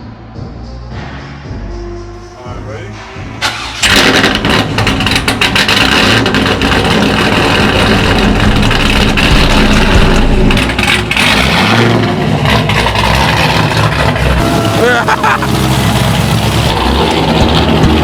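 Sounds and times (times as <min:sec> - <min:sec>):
loud choppy car engine: 0:02.2 - 0:18.0.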